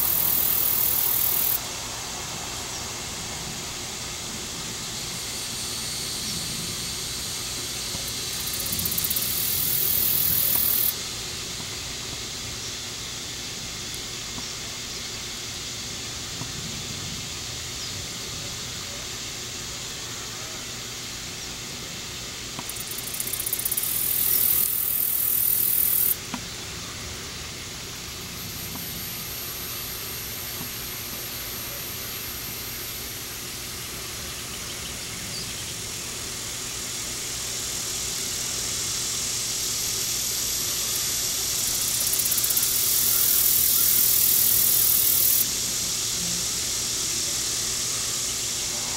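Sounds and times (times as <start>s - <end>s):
cicada chorus buzzing: 0.0s - 48.9s.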